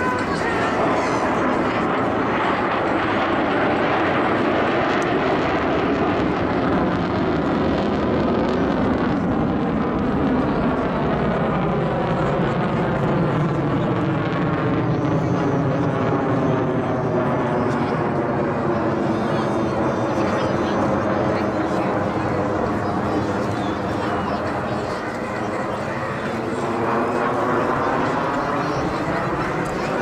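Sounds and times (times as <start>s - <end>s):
propeller aircraft droning overhead: 0.0s - 30.0s.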